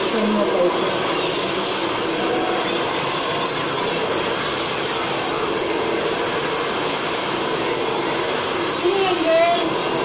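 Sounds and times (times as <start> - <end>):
hair dryer running: 0.0 - 10.0.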